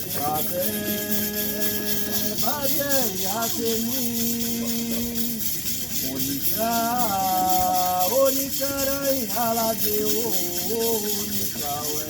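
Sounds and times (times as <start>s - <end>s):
shaker rattling: 0.0s - 12.0s
voices singing a chant: 0.0s - 12.0s.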